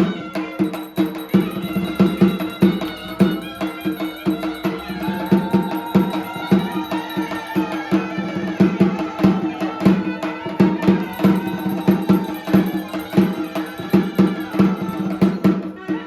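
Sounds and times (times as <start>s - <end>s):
folk melody notes: 0.0s - 9.1s, 9.9s - 16.0s
drum strokes: 0.0s - 16.0s.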